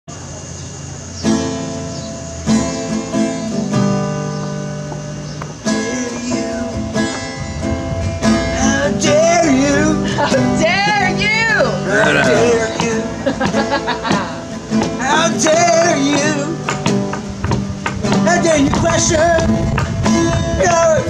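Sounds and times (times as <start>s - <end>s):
acoustic guitar strummed chords: 0.8s - 21.0s.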